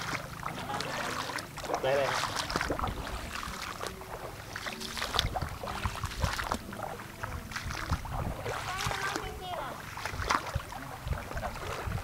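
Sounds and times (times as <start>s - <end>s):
floodwater sloshing and splashing: 0.0s - 12.0s.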